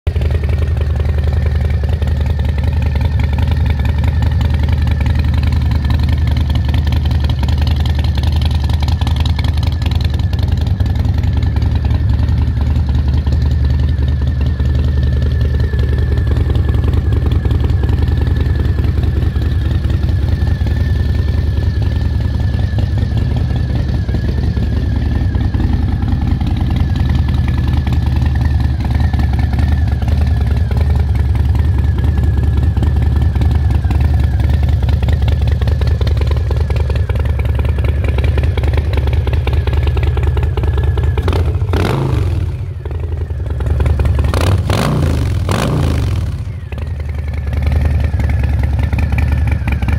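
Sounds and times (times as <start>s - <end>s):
motorcycle engine idling: 0.1s - 49.9s.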